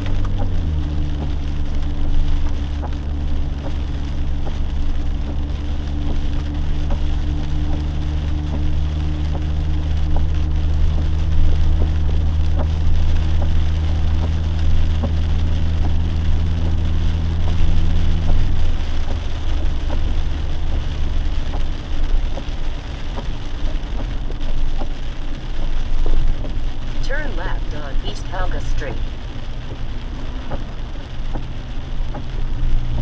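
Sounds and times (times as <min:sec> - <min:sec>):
engine and road drone: 0:00.0 - 0:33.0
rain ticking on car: 0:00.0 - 0:33.0.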